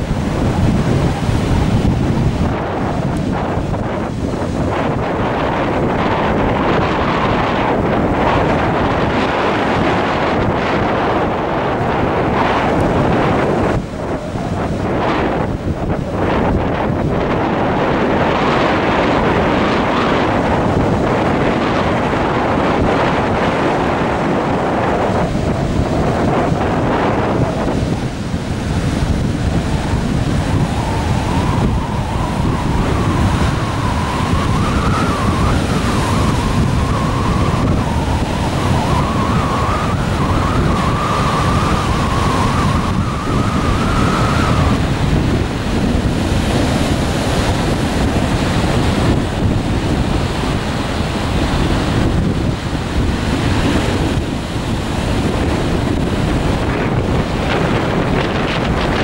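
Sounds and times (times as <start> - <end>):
waves breaking on beach: 0.0 - 59.0
wind buffeting microphone: 0.0 - 59.0.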